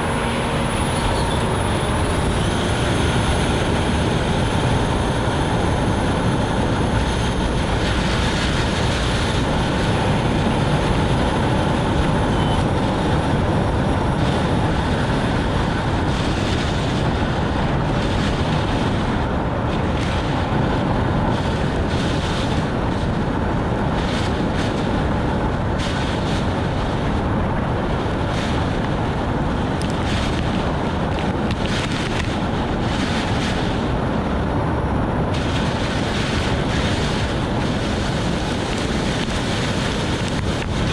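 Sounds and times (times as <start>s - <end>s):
heavy rain: 0.0s - 40.9s
tyres hissing on wet road: 0.0s - 40.9s.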